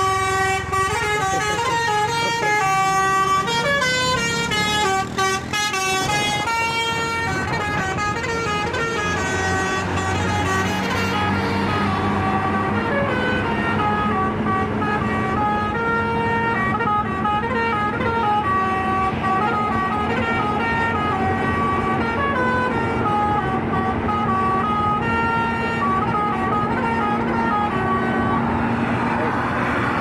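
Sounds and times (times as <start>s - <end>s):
bus horn playing a melody: 0.0s - 30.0s
engine and road noise: 0.0s - 30.0s.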